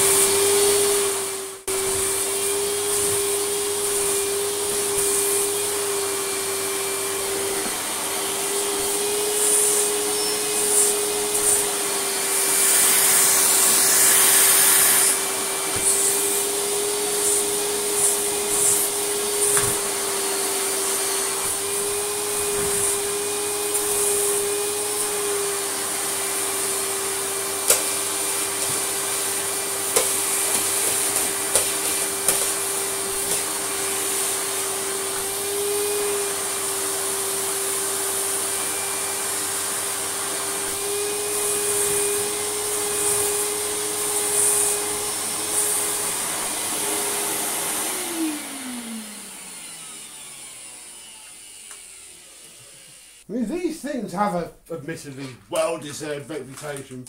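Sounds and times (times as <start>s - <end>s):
vacuum cleaner motor whine: 0.0s - 53.3s.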